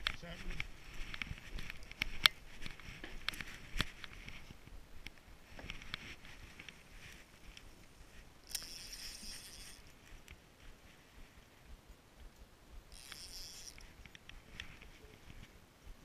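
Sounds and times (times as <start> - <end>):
fishing reel clicks and rustles: 0.0 - 10.4, 12.9 - 15.4.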